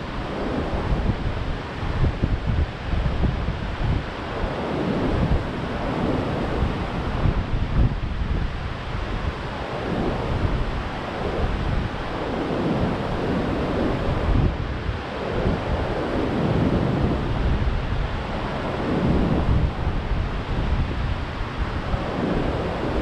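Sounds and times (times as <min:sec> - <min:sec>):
surf breaking on beach: 0:00.0 - 0:23.0
wind blowing across microphone: 0:00.0 - 0:23.0.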